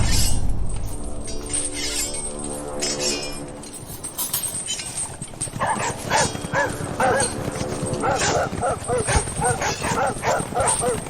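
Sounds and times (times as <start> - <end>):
faint metallic clinking: 0.9 - 11.0.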